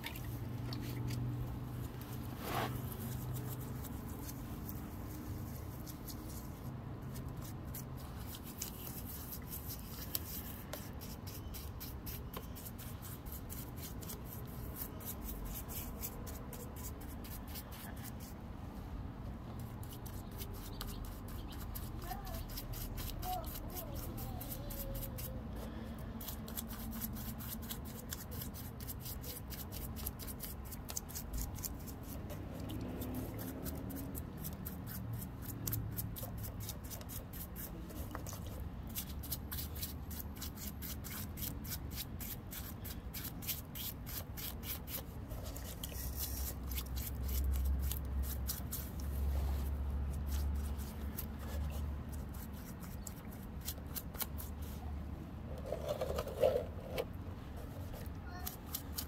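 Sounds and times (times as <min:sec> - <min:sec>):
brush scrubbing wet rock: 0:00.0 - 0:18.4, 0:19.6 - 0:54.8.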